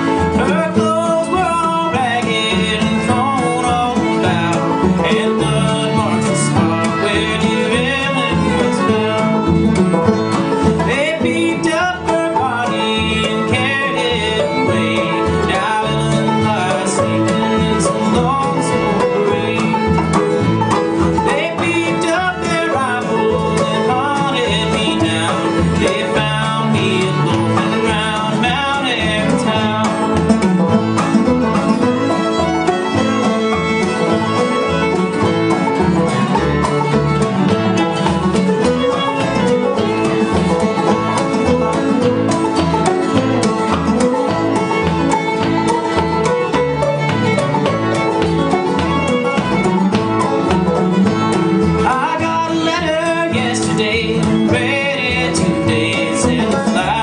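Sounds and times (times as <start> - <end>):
string band playing bluegrass tune: 0.0 - 57.0.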